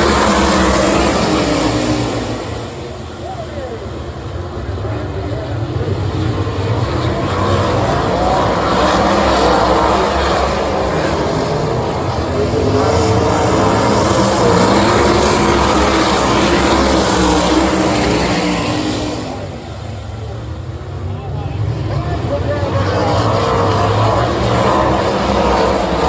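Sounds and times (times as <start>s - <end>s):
race car engines at full throttle: 0.0s - 26.0s.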